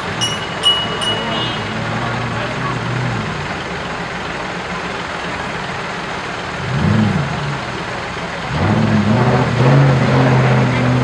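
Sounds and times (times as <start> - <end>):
off-road vehicle engine revving: 1.0 - 11.0.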